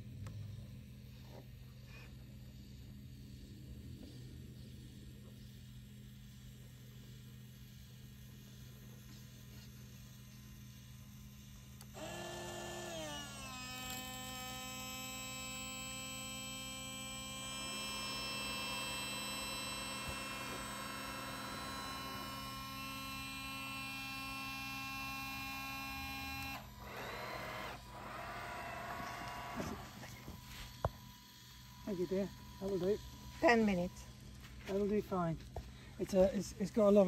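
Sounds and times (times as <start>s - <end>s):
electric pump motor whining: 0.0s - 37.0s.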